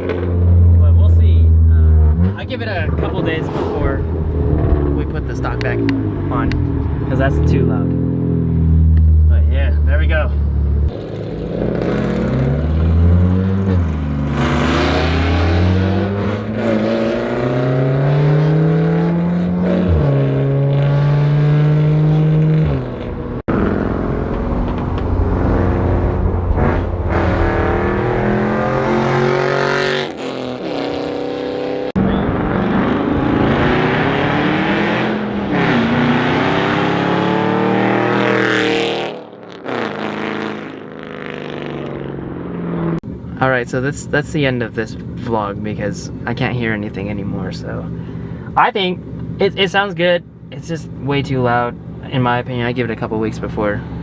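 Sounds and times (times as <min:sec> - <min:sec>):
loud car engine revving: 0:00.0 - 0:43.3.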